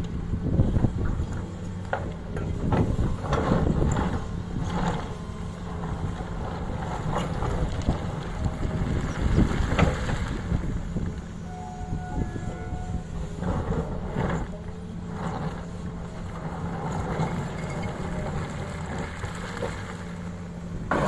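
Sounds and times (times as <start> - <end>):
wind buffeting microphone: 0.0 - 19.2
excavator diesel engine running: 0.0 - 21.0.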